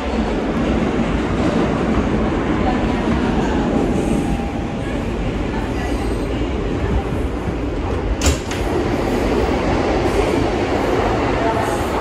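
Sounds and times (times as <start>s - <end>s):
subway wheels rumbling on track: 0.0s - 12.0s.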